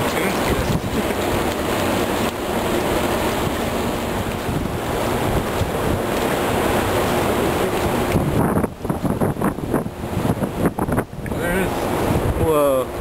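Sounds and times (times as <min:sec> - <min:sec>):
rushing river: 0:00.0 - 0:13.0
wind buffeting microphone: 0:00.0 - 0:13.0.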